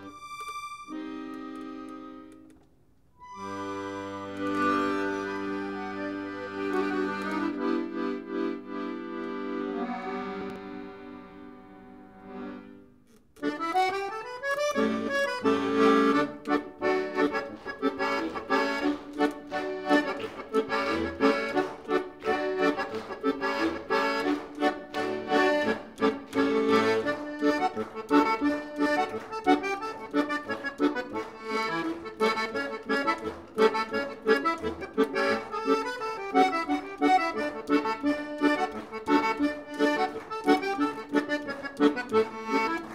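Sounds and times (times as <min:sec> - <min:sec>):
accordion playing lively tune: 0:00.0 - 0:02.6, 0:03.2 - 0:42.9.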